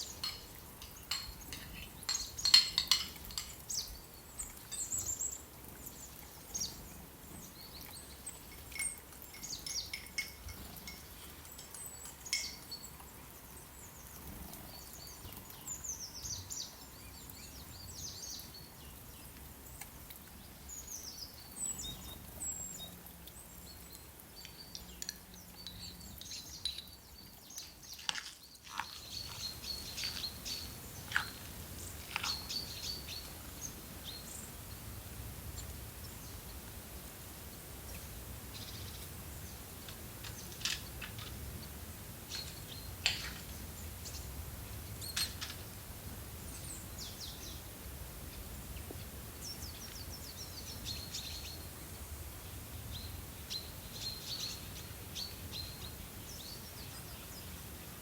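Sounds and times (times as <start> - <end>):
faint low background noise: 0.0 - 58.0
songbirds chirping: 0.0 - 58.0.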